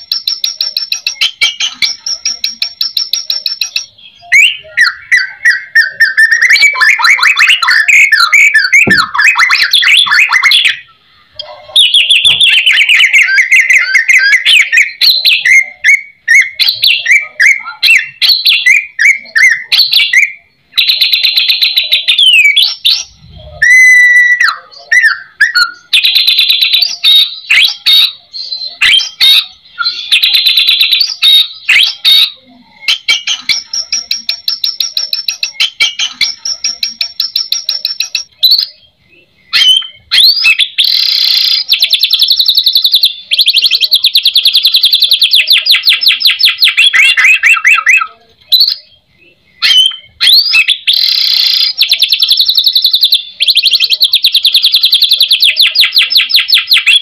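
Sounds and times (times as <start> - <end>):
bird singing rapid high notes: 0.0 - 57.0.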